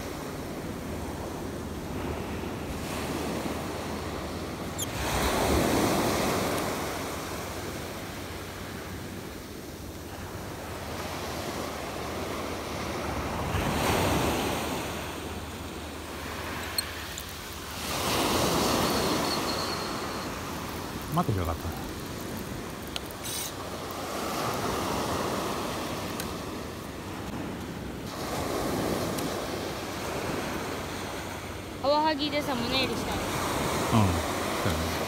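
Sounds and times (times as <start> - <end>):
waves washing up gravel beach: 0.0 - 35.0.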